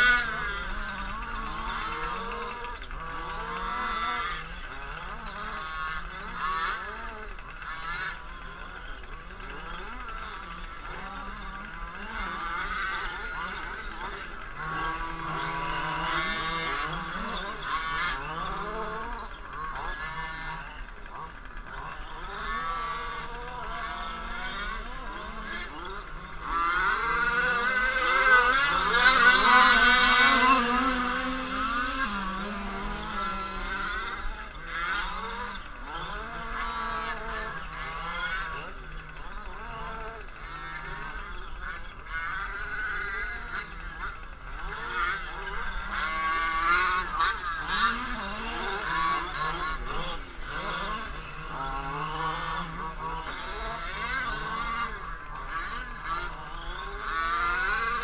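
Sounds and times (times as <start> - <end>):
rc truck engines revving: 0.0 - 58.0.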